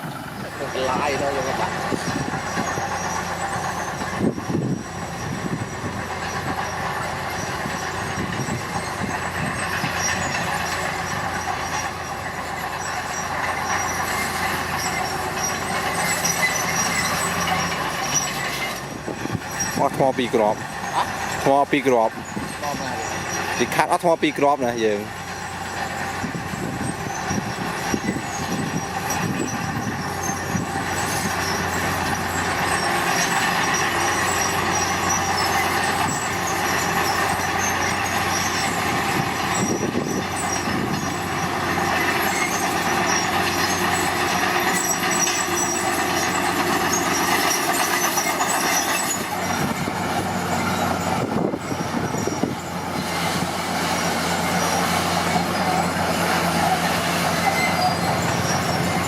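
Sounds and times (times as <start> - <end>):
diesel engine running: 0.0 - 59.0
steel tracks squealing and clattering: 0.0 - 59.0.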